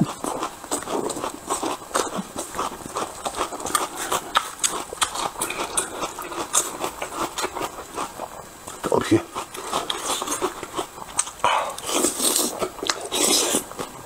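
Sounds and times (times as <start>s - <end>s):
crunching raw onion: 0.0s - 14.0s.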